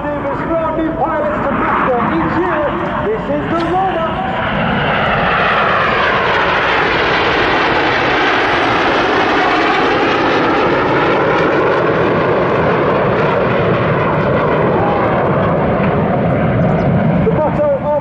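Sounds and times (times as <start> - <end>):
jets flying past: 0.0 - 18.0.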